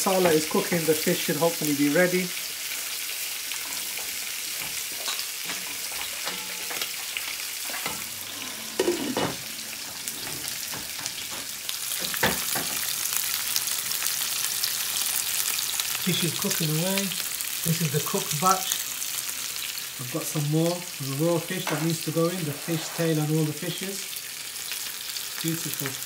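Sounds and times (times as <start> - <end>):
fish sizzling in oil: 0.0 - 26.0.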